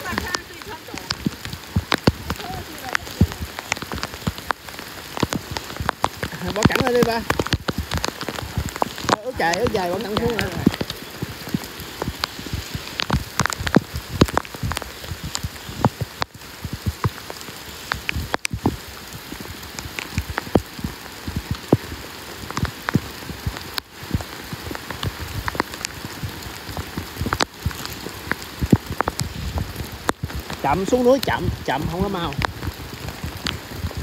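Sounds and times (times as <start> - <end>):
heavy rain on pavement: 0.0 - 34.0
raindrops hitting close by: 0.0 - 34.0.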